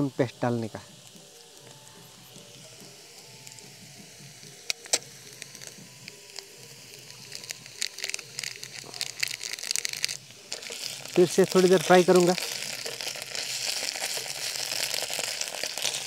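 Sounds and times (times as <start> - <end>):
crackling oil spatter: 0.0 - 16.0
food sizzling in oil: 0.0 - 16.0.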